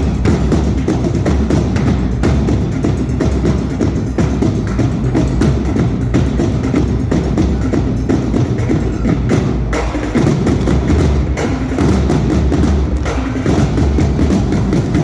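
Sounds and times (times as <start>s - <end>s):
heavy bass: 0.0s - 15.0s
percussion-driven music: 0.0s - 15.0s.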